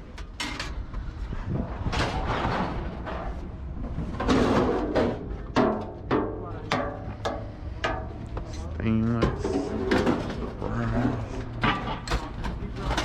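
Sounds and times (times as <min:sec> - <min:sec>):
scrap metal scraping and clanking: 0:00.2 - 0:13.0.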